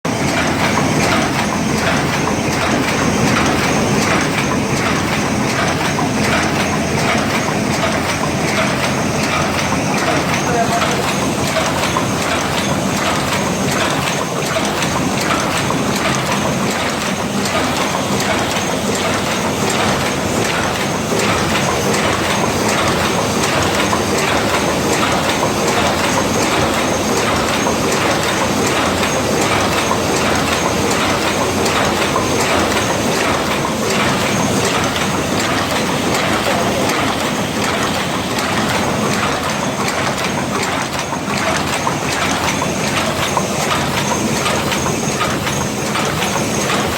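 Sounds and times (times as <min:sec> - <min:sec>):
paper cup machine clattering: 0:00.3 - 0:46.9.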